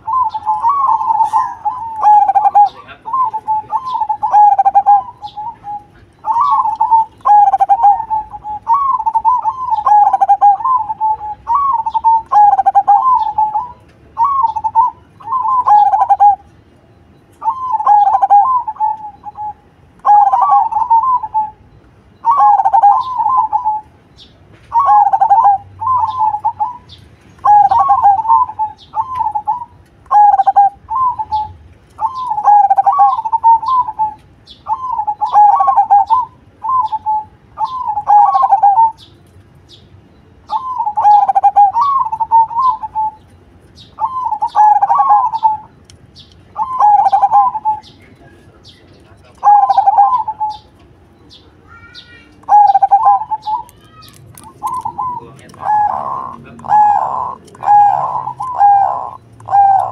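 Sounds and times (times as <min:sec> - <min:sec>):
dove cooing trill: 0:00.0 - 0:16.5, 0:17.4 - 0:39.1, 0:40.4 - 0:59.9.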